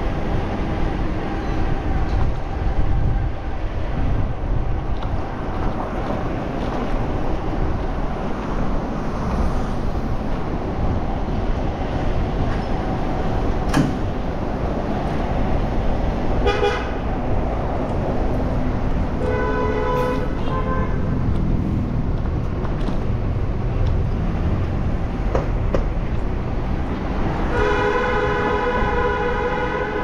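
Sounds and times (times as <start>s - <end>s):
street traffic: 0.0s - 30.0s
wind noise: 0.0s - 30.0s.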